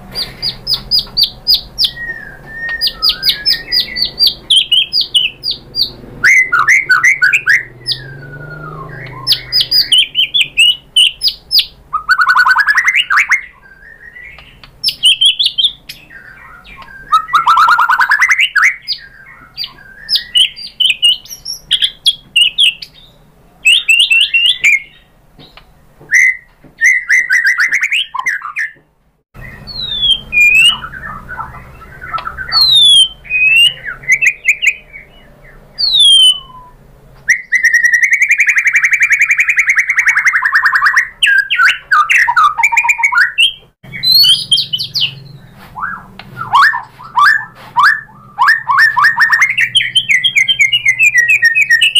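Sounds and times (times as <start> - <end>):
shama singing whistles and trills: 0.1 - 28.8, 29.4 - 51.9.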